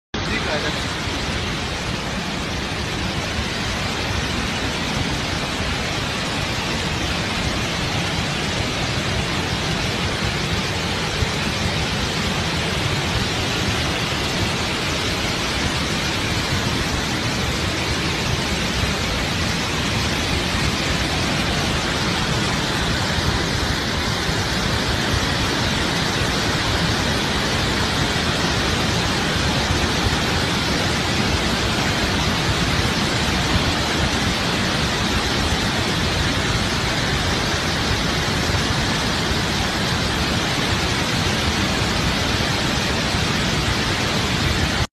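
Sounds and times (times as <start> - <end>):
floodwater rushing: 0.2 - 44.9.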